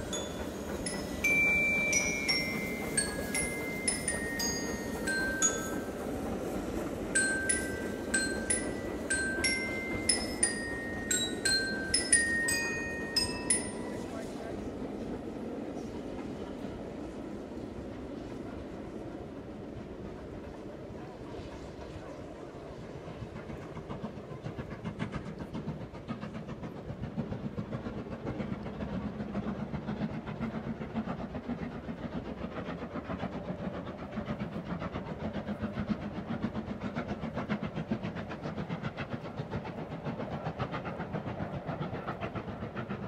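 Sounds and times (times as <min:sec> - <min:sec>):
steam train passing: 0:00.0 - 0:43.0.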